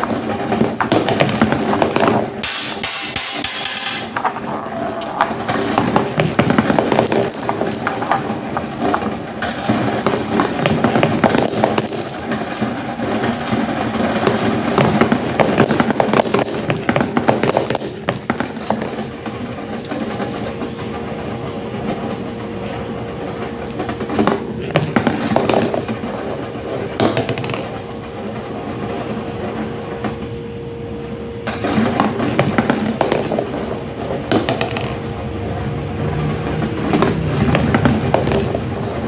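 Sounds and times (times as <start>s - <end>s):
marbles rolling and clicking: 0.0s - 20.7s, 23.2s - 27.8s, 31.5s - 35.3s, 36.0s - 39.0s.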